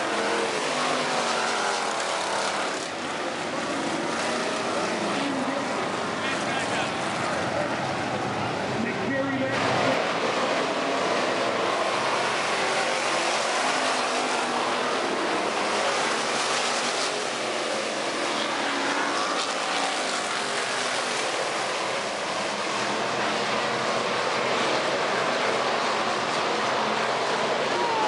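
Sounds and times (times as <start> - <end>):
race car engines: 0.0 - 28.0
race car passing close: 0.0 - 28.0.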